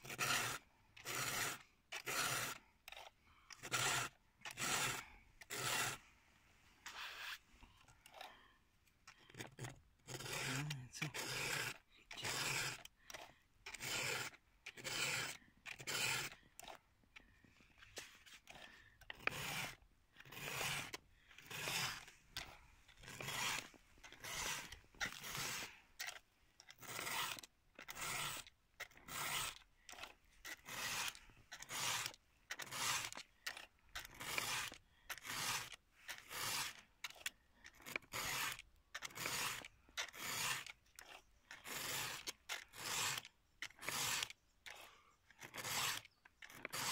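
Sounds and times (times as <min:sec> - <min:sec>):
file rasping on saw chain: 0:00.0 - 0:06.1, 0:06.8 - 0:08.3, 0:09.0 - 0:16.8, 0:17.8 - 0:46.9.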